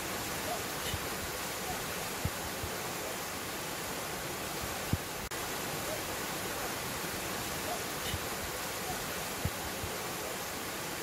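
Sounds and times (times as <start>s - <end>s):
waterfall pouring into a pool: 0.0s - 11.0s.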